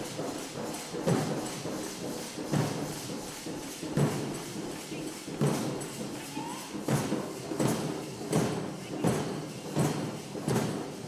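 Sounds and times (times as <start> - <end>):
barrel drums pounding: 0.0 - 11.0.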